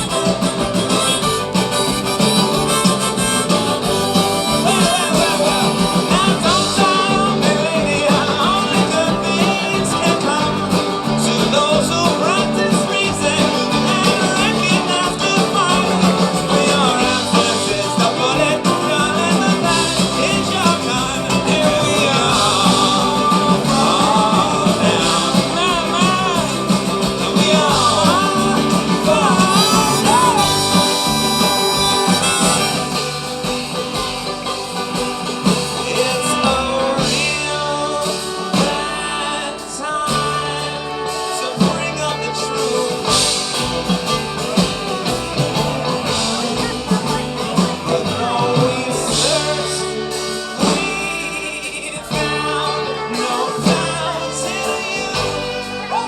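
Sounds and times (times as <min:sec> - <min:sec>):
guitar: 0:00.0 - 0:56.0
harmonica: 0:00.0 - 0:56.0
person singing: 0:00.0 - 0:56.0.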